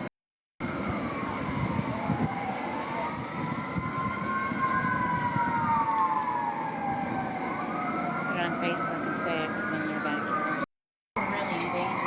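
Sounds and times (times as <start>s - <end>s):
distant siren wailing: 0.0s - 12.0s.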